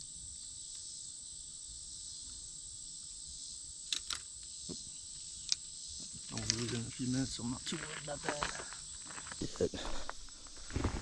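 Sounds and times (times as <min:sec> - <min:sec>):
insects singing: 0:00.0 - 0:11.0.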